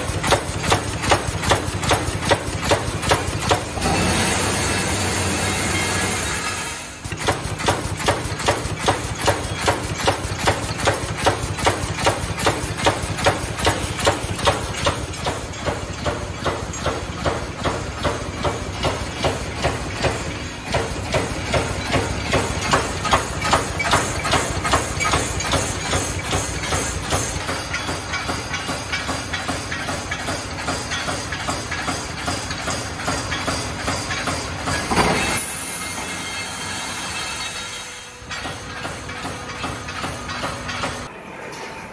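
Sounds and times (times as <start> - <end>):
welding machine clacking: 0.0 - 41.1.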